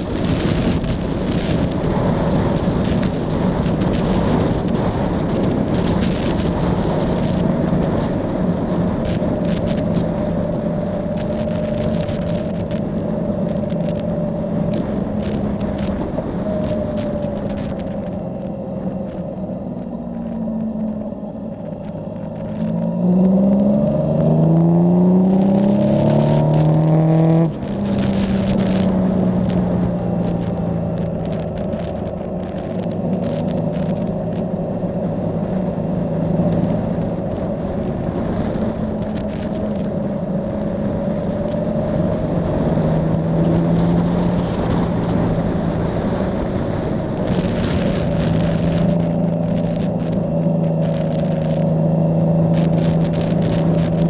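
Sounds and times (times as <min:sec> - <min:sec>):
motorcycle engine accelerating: 0:00.0 - 0:54.0
wind rushing over microphone: 0:00.0 - 0:54.0.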